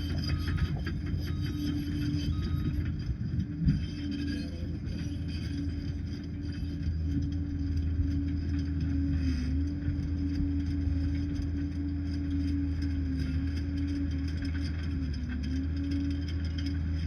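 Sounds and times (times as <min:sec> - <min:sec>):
bulldozer diesel rumble: 0:00.0 - 0:17.0.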